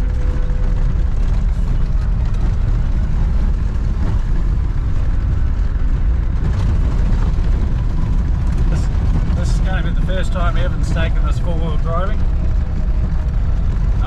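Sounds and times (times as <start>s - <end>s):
diesel engine and road rumble: 0.0s - 14.0s.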